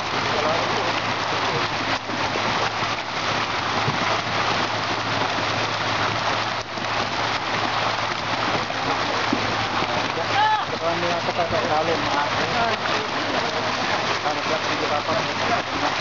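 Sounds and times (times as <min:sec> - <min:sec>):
fish splashing and thrashing: 0:00.0 - 0:16.0.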